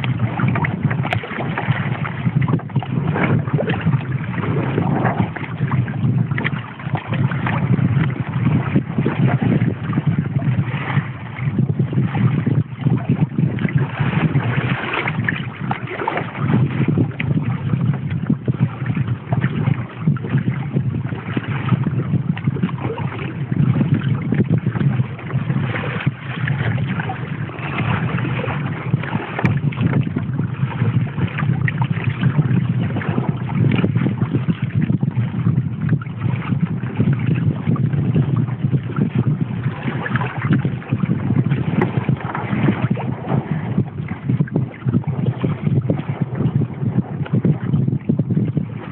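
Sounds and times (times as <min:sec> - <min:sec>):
water lapping along hull: 0:00.0 - 0:48.9
wind buffeting microphone: 0:00.0 - 0:48.9.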